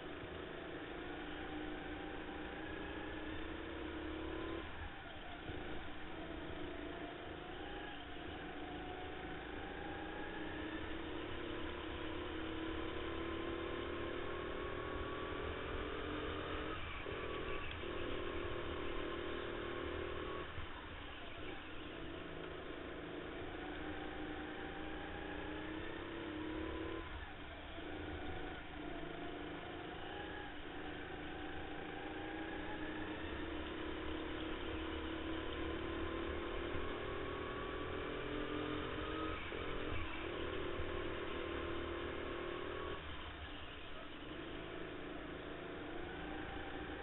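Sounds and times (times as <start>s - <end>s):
go-kart motor revving: 0.0s - 47.0s.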